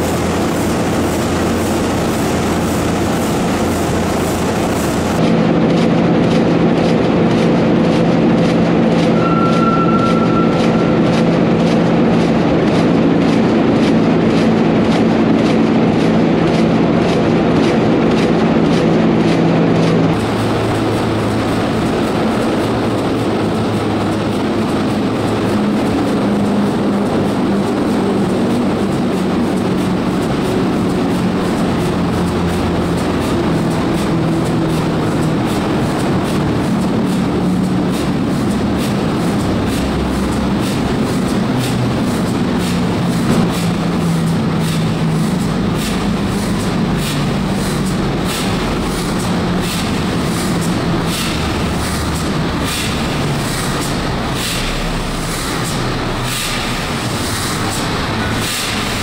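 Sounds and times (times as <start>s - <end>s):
diesel engine clattering: 0.0s - 59.0s.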